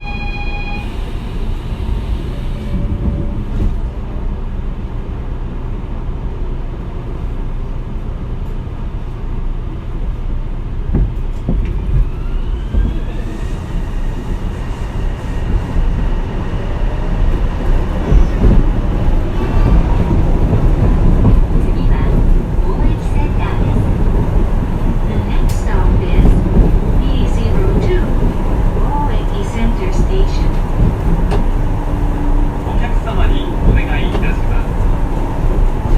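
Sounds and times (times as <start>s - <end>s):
train running with low rumble: 0.0s - 35.9s.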